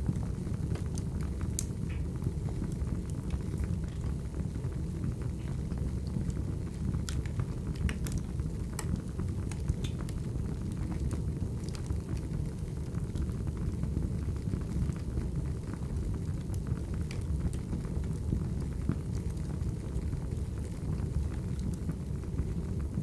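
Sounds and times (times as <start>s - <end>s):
crackling wood fire: 0.0s - 23.0s.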